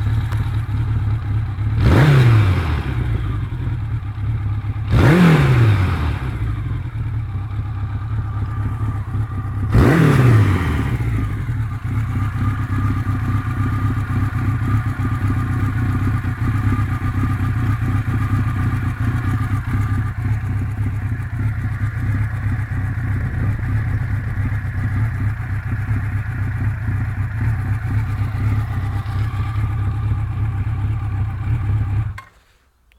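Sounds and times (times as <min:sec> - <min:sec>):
motorcycle engine idling: 0:00.0 - 0:32.5.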